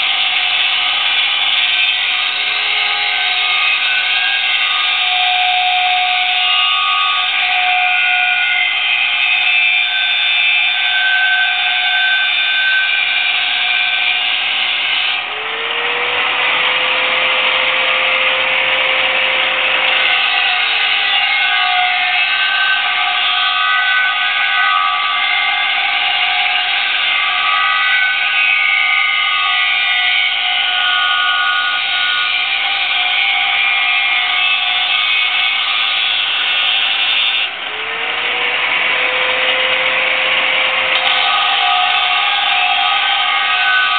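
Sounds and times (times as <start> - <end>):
angle grinder screeching on steel: 0.0 - 43.9.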